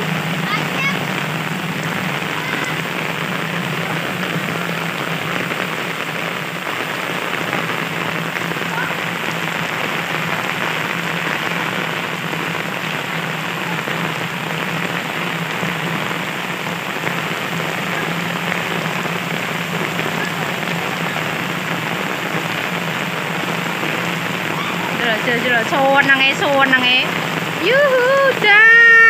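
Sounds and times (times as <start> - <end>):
heavy rain on road and roofs: 0.0 - 29.0.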